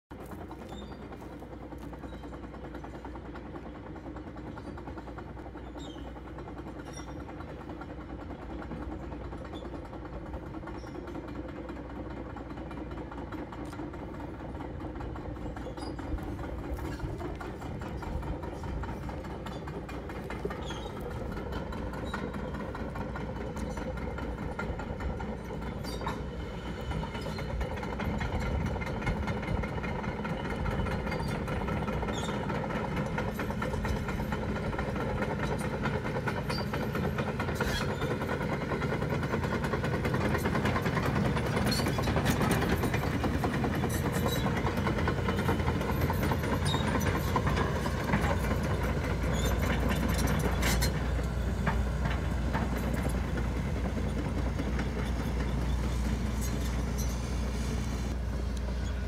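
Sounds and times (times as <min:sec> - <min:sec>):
excavator diesel engine: 0:00.0 - 0:59.0
steel tracks clanking: 0:00.1 - 0:59.0.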